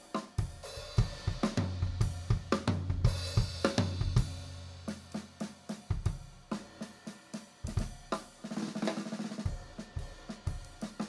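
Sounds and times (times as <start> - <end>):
jazz drum kit playing: 0.0 - 11.0.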